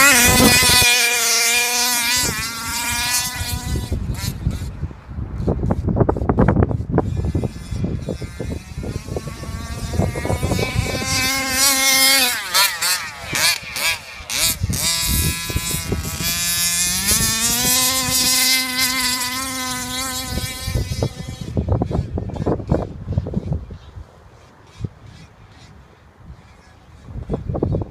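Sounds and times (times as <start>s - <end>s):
two-stroke engine high-pitched buzz: 0.0s - 23.5s.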